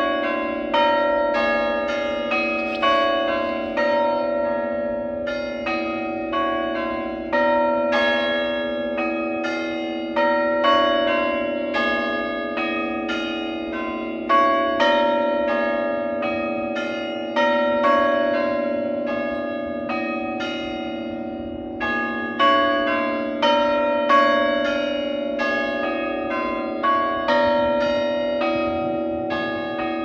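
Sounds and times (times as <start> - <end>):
church bells change-ringing: 0.0 - 30.0.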